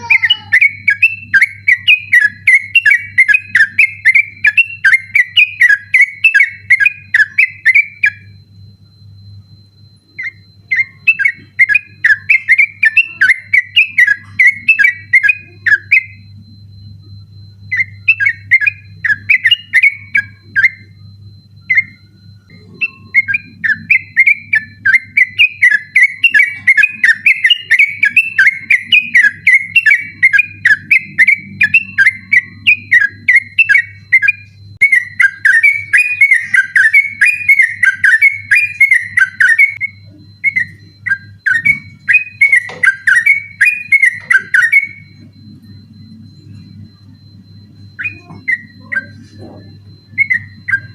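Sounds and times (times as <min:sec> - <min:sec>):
bird singing whistled notes: 0:00.0 - 0:08.4, 0:09.2 - 0:50.9
faint steady hum: 0:00.0 - 0:50.9.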